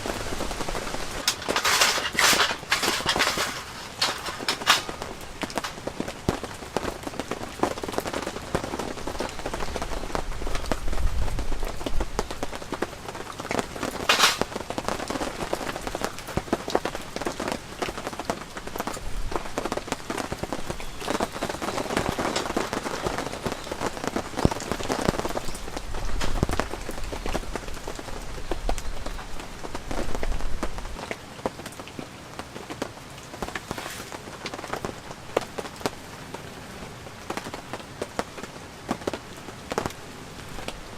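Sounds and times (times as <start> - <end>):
heavy rain on a tent: 0.0 - 40.9.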